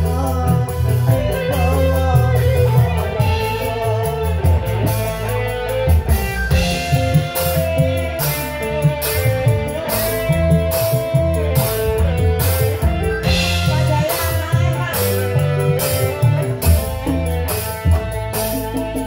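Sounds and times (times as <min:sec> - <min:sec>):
drum kit beat: 0:00.0 - 0:19.0
guitar: 0:00.0 - 0:19.0
live band playing loud music: 0:00.0 - 0:19.0.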